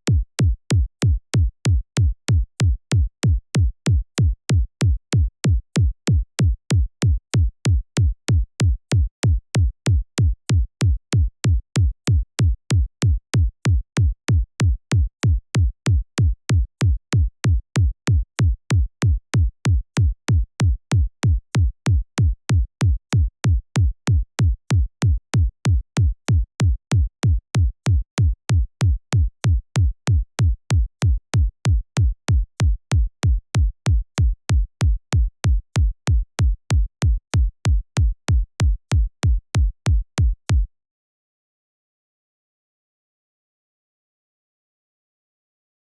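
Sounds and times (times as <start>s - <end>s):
electronic kick drum thumps: 0.0s - 40.7s.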